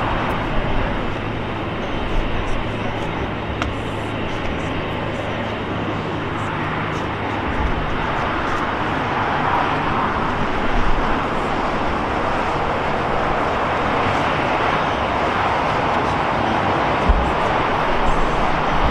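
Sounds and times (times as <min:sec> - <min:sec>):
jet engines roaring: 0:00.0 - 0:18.9
road traffic noise: 0:00.0 - 0:18.9.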